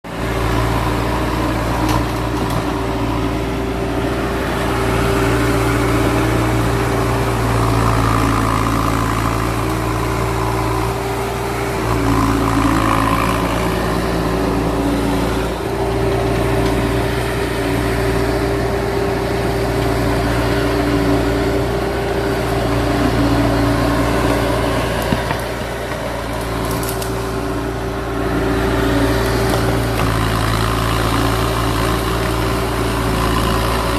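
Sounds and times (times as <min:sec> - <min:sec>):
loader engine running under load: 0:00.0 - 0:33.9.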